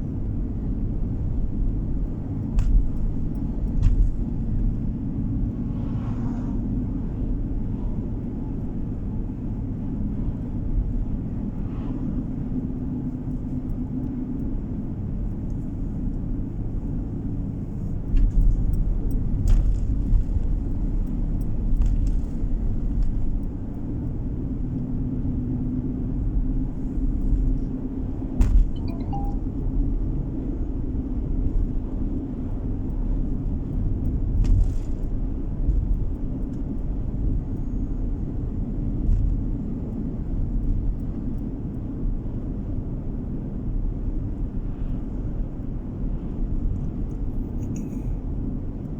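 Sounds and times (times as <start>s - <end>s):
car interior road rumble: 0.0s - 48.9s.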